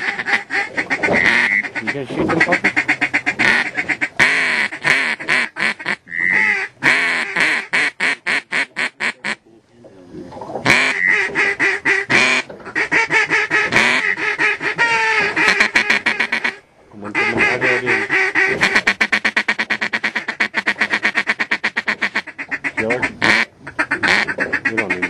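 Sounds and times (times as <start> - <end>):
duck call quacks and chatter: 0.0 - 9.5, 10.6 - 25.0.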